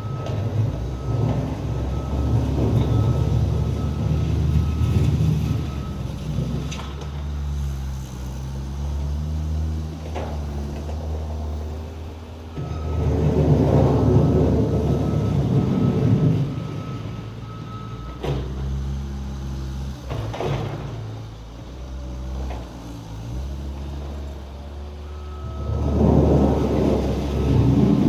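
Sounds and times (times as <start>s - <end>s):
engine running under load: 0.0s - 28.0s.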